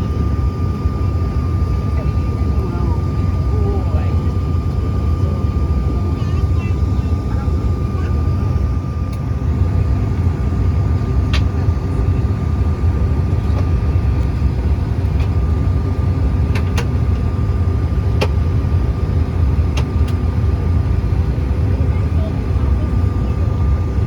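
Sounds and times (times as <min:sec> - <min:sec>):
constant whine: 0:00.0 - 0:24.0
jet engine cabin rumble: 0:00.0 - 0:24.0.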